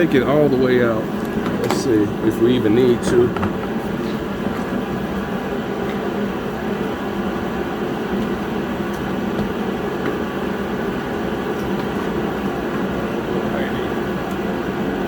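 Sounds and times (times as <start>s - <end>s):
shop heater blowing: 0.0s - 15.0s.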